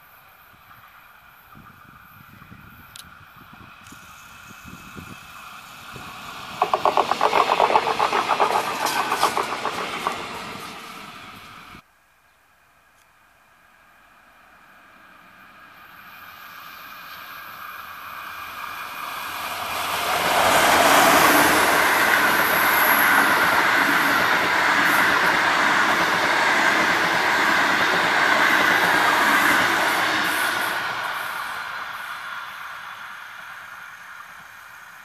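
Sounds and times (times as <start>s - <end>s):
train passing on rails: 0.0s - 11.8s, 13.5s - 35.0s.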